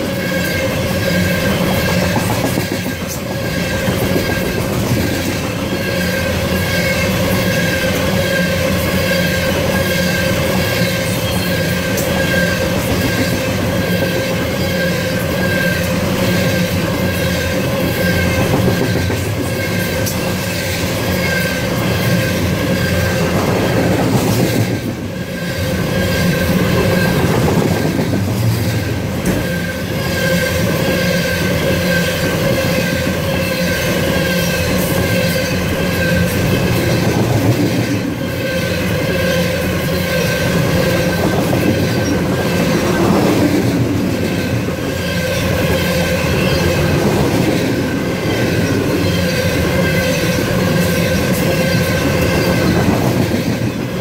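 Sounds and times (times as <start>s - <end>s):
high wheel squeal: 0.0s - 53.0s
train wheels rumbling on rails: 0.0s - 54.0s.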